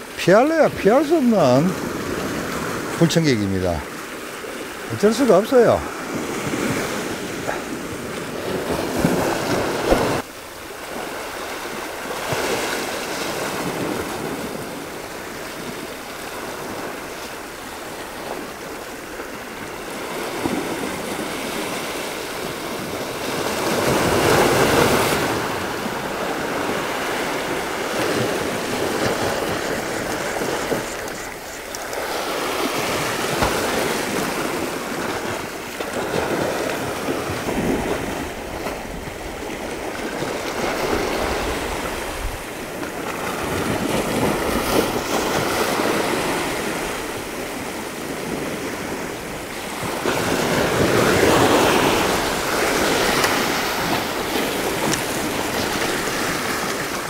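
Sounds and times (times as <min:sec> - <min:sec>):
sea waves washing against rocks: 0:00.0 - 0:57.0.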